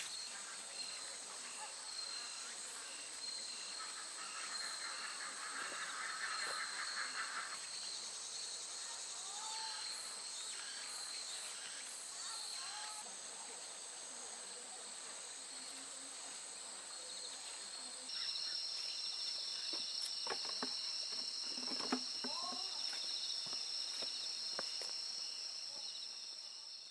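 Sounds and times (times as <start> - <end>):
crickets and insects chirping: 0.0 - 26.9.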